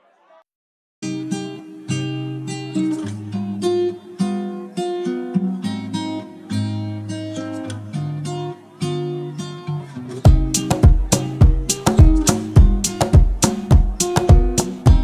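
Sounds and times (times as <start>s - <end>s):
strummed guitar chords: 1.0s - 15.0s.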